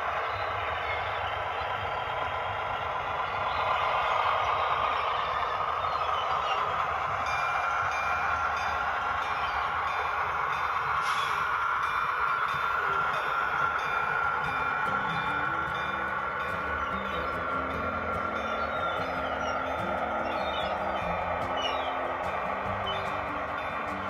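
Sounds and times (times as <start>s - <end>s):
model locomotive rushing sound: 0.0s - 24.0s.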